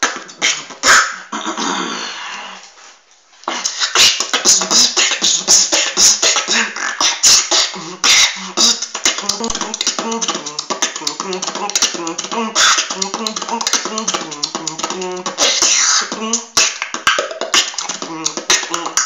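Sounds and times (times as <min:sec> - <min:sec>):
person beatboxing: 0:00.0 - 0:02.7, 0:03.4 - 0:19.0.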